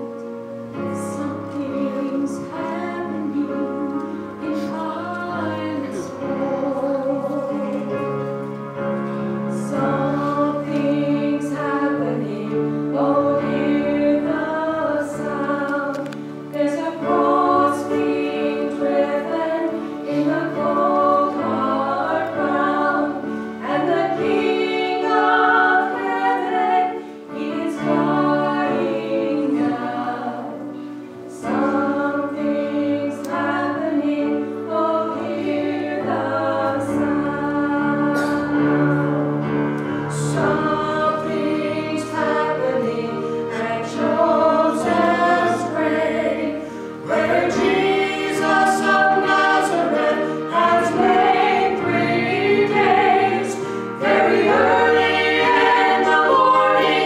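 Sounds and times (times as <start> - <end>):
vocal trio singing gospel: 0.9 - 8.4, 9.0 - 57.0.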